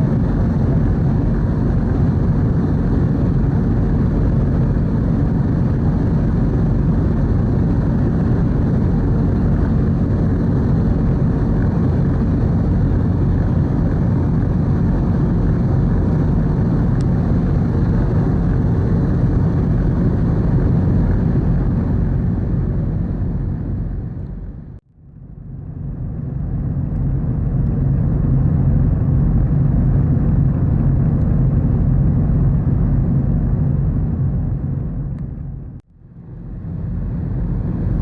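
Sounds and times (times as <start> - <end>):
ferry engine drone: 0.0 - 38.0
rushing wind: 0.0 - 38.0.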